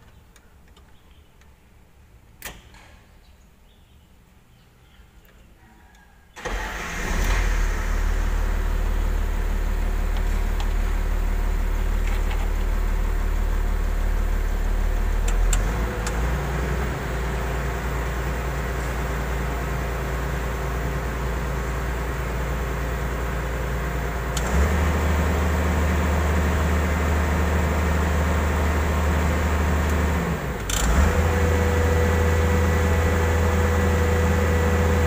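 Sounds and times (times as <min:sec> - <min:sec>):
diesel engine starting and idling: 0:06.3 - 0:35.0.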